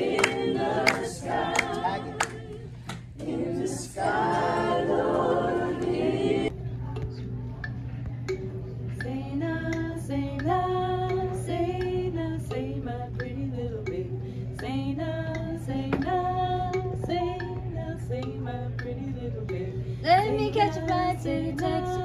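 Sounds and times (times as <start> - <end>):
women singing in harmony: 0.0 - 6.5, 9.0 - 22.0.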